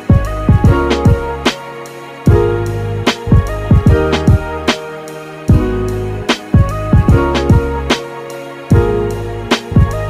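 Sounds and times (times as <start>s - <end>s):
music with drums and bass: 0.0s - 10.0s.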